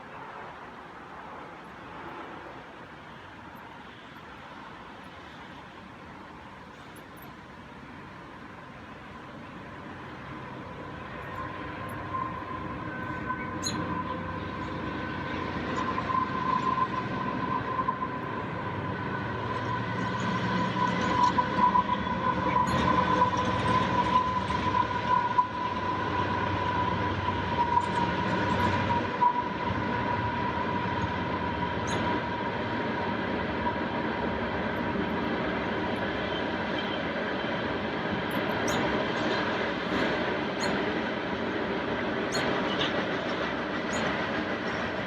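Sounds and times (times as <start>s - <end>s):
train rolling past: 0.0s - 45.0s.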